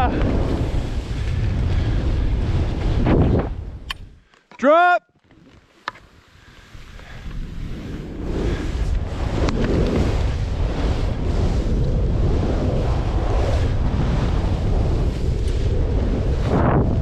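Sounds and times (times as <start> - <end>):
wind buffeting microphone: 0.0 - 4.2, 6.2 - 17.0.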